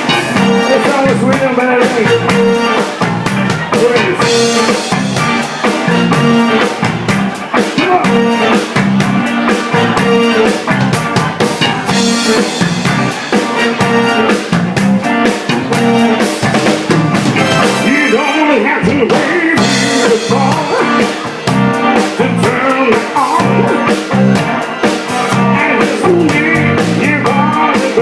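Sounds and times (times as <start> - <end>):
drum kit rimshots: 0.0 - 28.0
rock band playing: 0.0 - 28.0.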